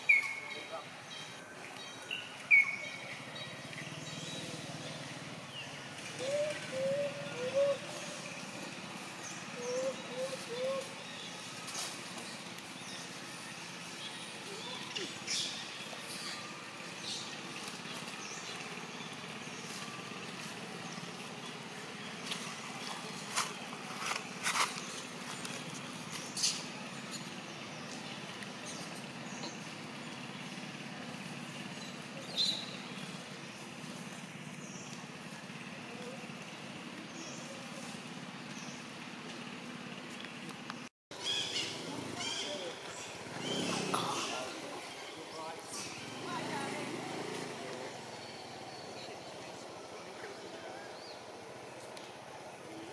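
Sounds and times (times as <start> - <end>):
low outdoor background hum: 0.0 - 52.9.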